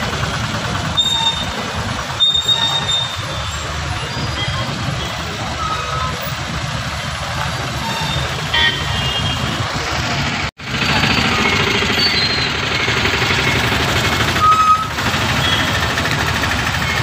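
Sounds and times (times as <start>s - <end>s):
idling engines rumble: 0.0s - 17.0s.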